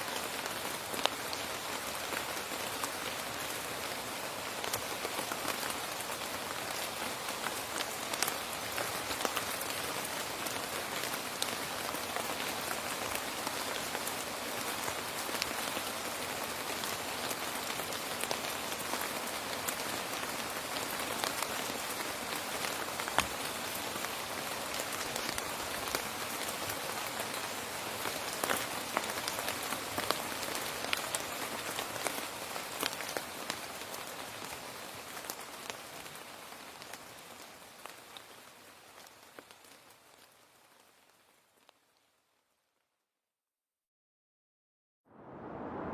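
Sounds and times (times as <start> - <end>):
rain pattering on a hard surface: 0.0 - 42.5.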